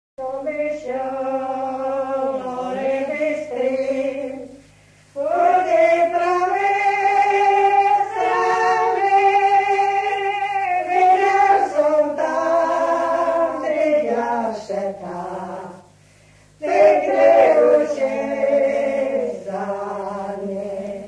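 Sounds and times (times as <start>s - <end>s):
choir singing held chords: 0.2s - 21.0s.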